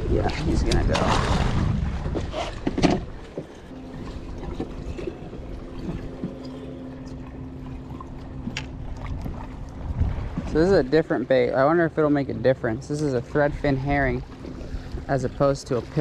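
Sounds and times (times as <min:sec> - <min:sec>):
steady low hum: 0:00.0 - 0:16.0
water splashing: 0:00.0 - 0:16.0.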